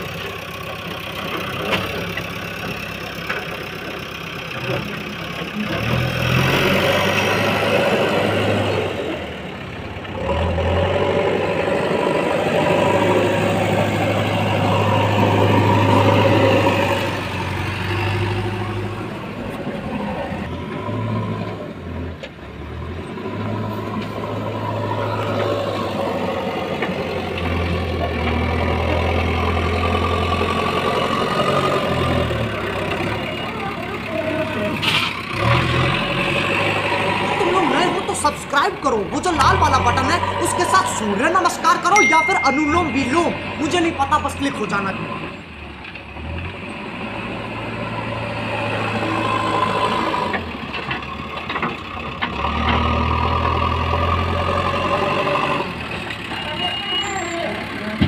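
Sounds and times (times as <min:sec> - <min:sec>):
diesel engine working: 0:00.0 - 0:58.0.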